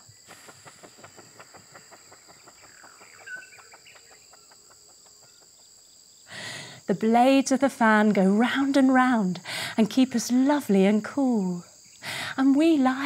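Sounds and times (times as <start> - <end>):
cricket-like chirping: 0.0 - 13.0.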